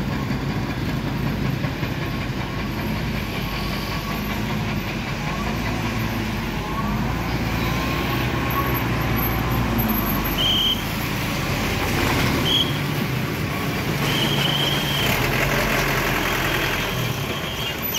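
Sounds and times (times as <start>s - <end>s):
dump truck diesel engine: 0.0s - 17.9s.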